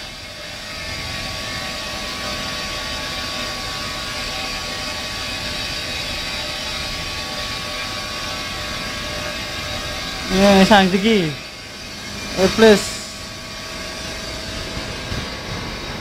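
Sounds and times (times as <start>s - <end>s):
faint steady hums: 0.0s - 16.0s
industrial machinery roar: 0.0s - 16.0s.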